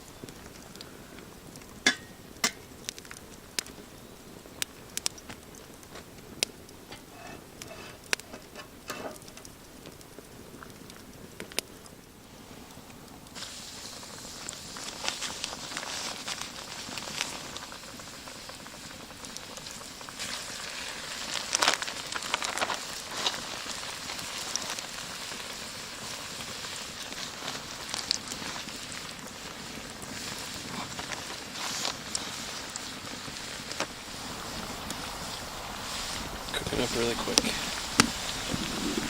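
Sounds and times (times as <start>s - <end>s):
food sizzling in a pan: 0.0s - 4.9s, 6.8s - 11.0s, 12.2s - 39.0s
campfire crackling and popping: 0.0s - 39.0s.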